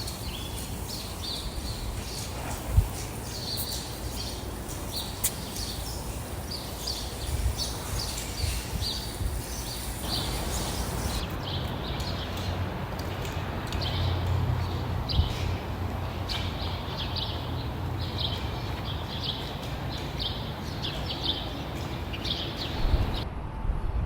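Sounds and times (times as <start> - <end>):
small birds chirping: 0.0 - 12.6, 13.7 - 23.2.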